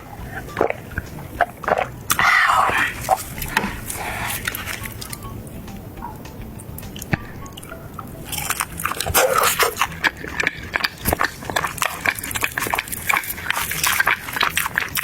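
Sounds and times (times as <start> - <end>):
crunchy chewing of fried food: 0.0 - 5.8, 6.8 - 15.0.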